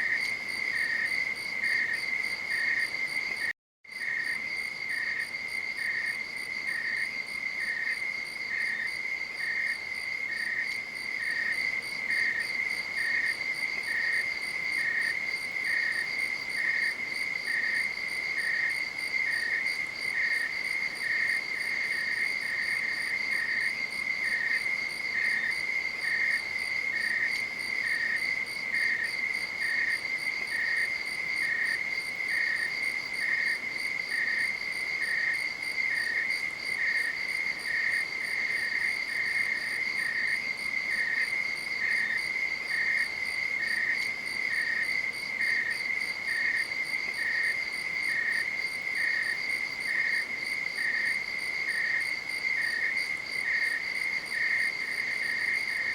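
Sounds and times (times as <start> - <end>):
insect chirping: 0.0 - 55.9.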